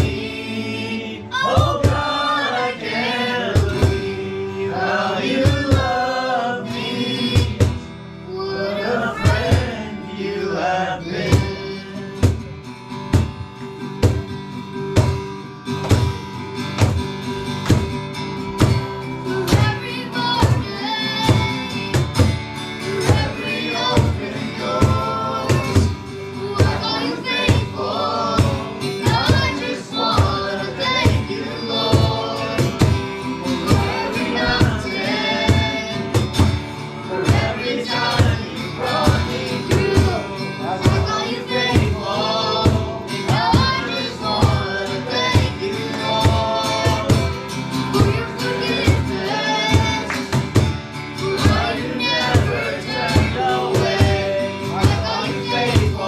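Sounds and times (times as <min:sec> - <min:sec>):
band with a steady beat: 0:00.0 - 0:00.4, 0:01.4 - 0:02.3, 0:03.5 - 0:04.3, 0:05.3 - 0:06.2, 0:07.3 - 0:08.0, 0:09.2 - 0:09.8, 0:11.2 - 0:56.0
voices singing together: 0:00.0 - 0:12.5, 0:16.8 - 0:56.0.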